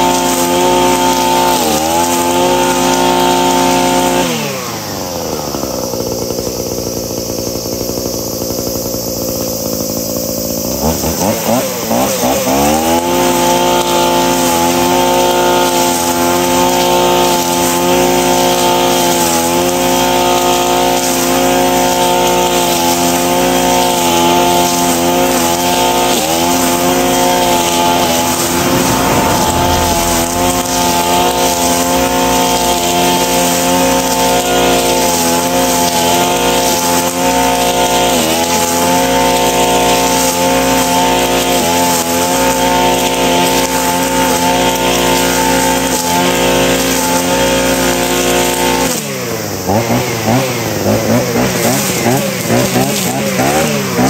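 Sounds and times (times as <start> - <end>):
brush cutter cutting grass: 0.0 - 54.0.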